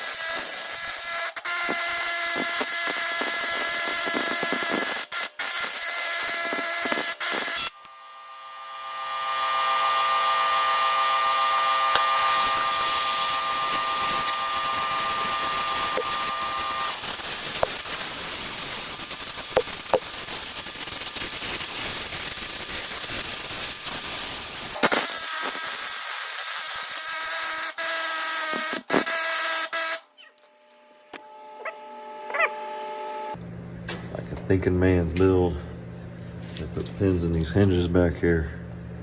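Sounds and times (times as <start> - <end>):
power tool motor running: 0.0 - 22.7, 23.3 - 33.4.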